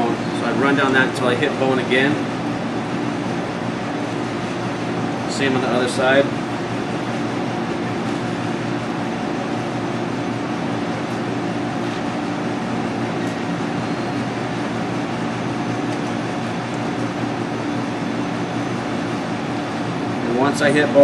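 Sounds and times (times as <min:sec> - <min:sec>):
ventilation system humming: 0:00.0 - 0:21.0.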